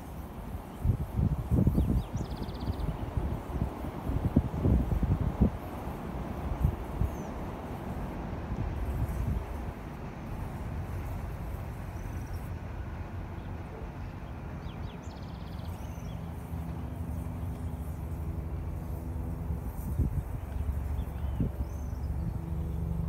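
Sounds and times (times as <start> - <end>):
low outdoor rumble: 0.0 - 23.0
engine hum: 2.8 - 23.0.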